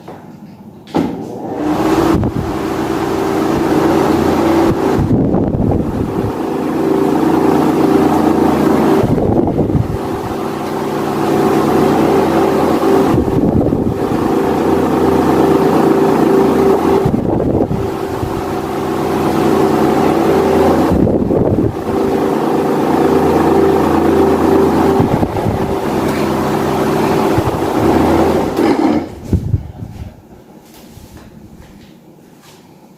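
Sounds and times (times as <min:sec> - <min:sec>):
electric fan motor hum: 0:00.0 - 0:32.9
air rushing against microphone: 0:01.6 - 0:30.3.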